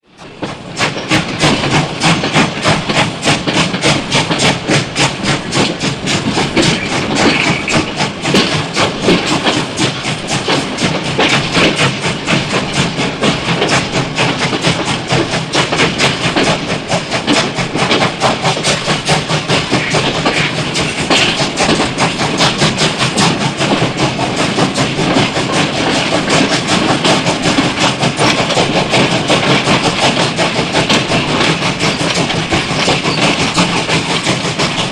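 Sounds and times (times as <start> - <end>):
steam locomotive chuffing: 0.0 - 34.9.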